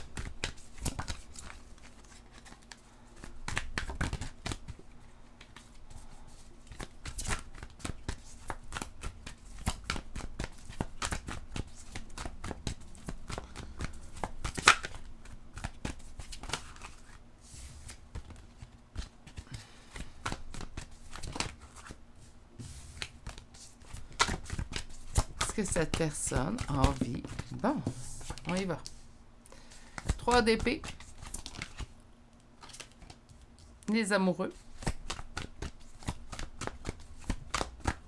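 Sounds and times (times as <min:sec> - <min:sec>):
cards being shuffled: 0:00.0 - 0:04.8, 0:05.4 - 0:22.0, 0:22.6 - 0:29.0, 0:29.6 - 0:31.9, 0:32.6 - 0:33.8, 0:34.6 - 0:38.0.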